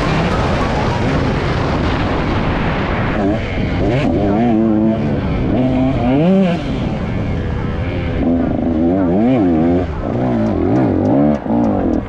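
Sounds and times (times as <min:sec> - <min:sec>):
dirt bike engine revving: 0:00.0 - 0:12.0
rushing wind noise: 0:00.0 - 0:12.0.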